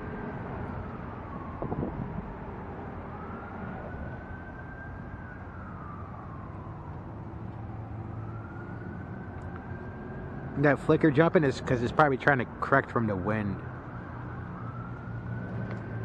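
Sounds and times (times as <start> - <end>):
siren wailing: 0.0 - 11.7, 12.5 - 16.0.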